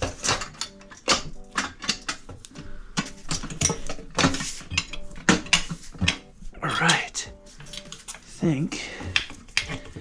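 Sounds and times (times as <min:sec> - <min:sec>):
metal tools clanking on wheel rim: 0:00.0 - 0:10.0.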